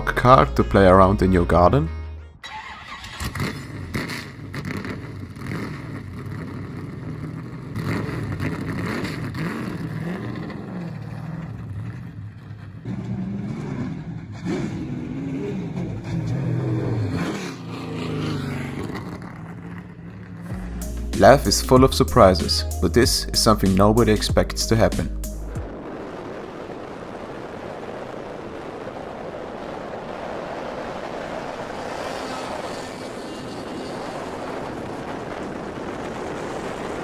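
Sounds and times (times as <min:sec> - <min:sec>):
car engine revving: 0:02.6 - 0:37.0.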